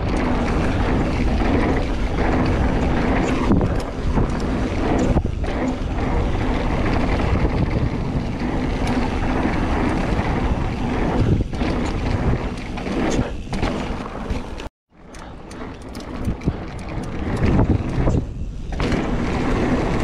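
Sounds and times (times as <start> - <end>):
wind on microphone: 0.0 - 14.6, 15.2 - 20.0
bike rattling over bumps: 0.0 - 20.0
tyres on dirt: 0.0 - 20.0.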